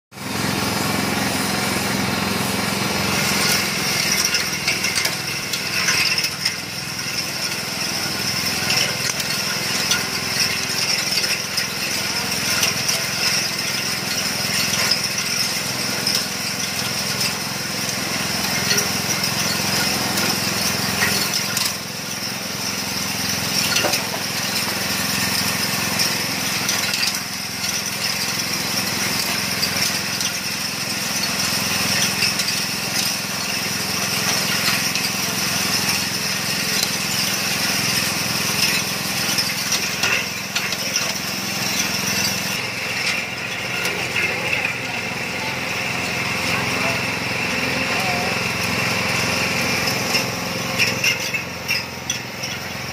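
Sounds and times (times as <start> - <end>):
shredder engine droning: 0.1 - 52.9
clinks and rattles of chopping: 3.0 - 52.9.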